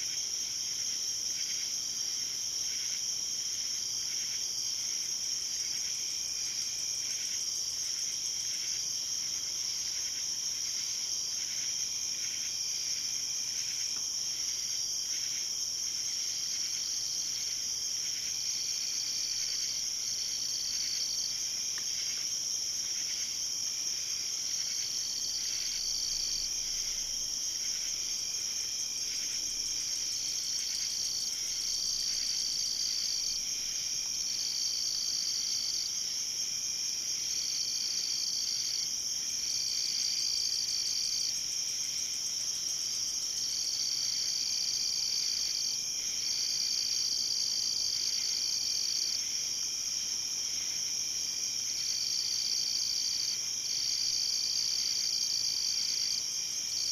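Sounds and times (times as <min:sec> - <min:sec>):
insect chirps: 0:00.0 - 0:56.9.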